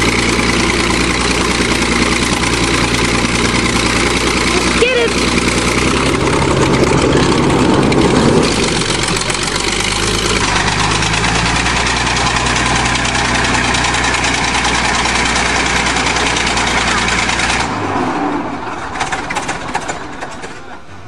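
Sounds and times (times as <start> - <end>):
bulldozer engine running: 0.0 - 21.0.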